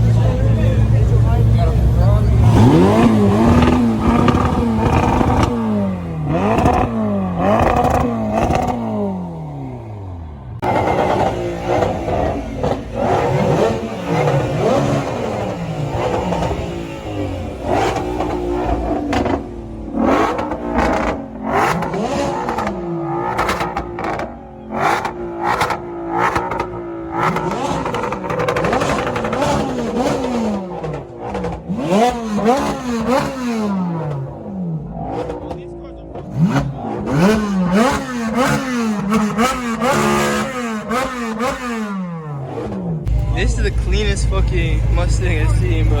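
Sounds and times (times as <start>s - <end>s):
car engine revving: 0.0s - 46.0s
exhaust crackles: 0.0s - 46.0s.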